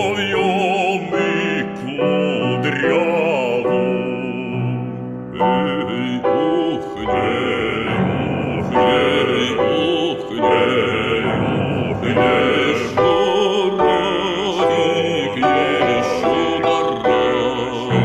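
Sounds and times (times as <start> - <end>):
backing music: 0.0 - 18.0
person singing with vibrato: 0.0 - 18.0.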